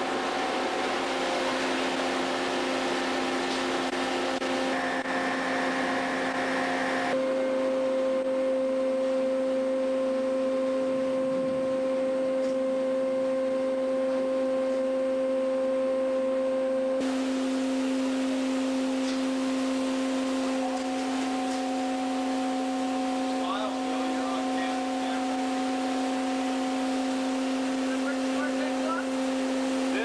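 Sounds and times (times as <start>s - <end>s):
machinery hum: 0.0s - 30.0s.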